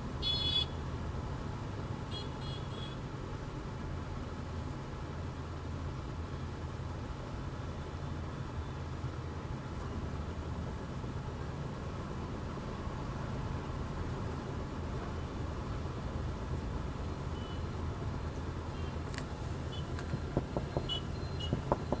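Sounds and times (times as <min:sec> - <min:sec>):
engine running with low rumble: 0:00.0 - 0:22.0.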